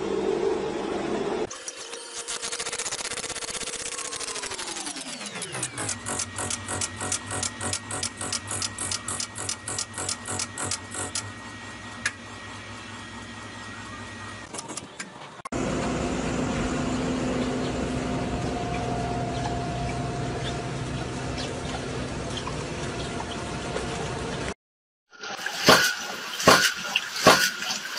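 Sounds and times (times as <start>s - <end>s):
harvester engine and conveyor drone: 0.0s - 24.5s
machine ticking and whining: 0.8s - 24.6s.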